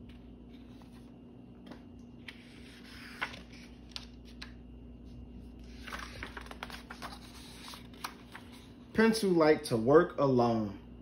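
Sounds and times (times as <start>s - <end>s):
paper rustling: 0.1s - 9.0s.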